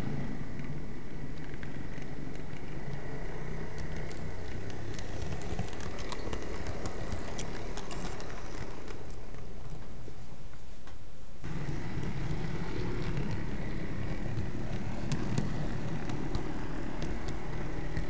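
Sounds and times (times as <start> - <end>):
model train rumbling: 0.0 - 10.8, 11.4 - 18.0
faint motor whine: 0.0 - 18.0.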